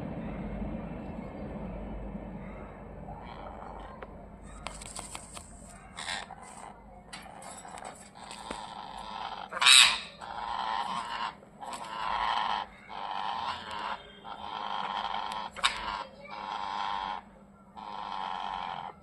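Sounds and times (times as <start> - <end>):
parrots squawking: 2.6 - 19.0.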